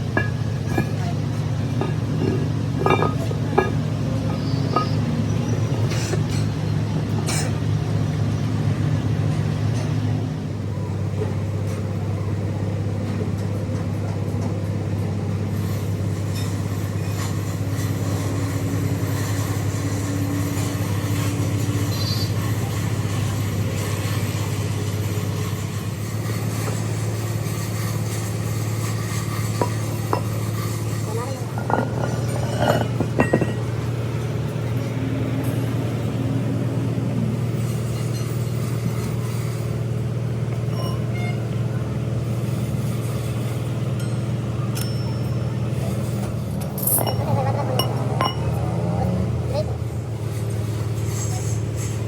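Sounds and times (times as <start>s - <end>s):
machinery humming: 0.0s - 13.0s, 14.9s - 52.0s.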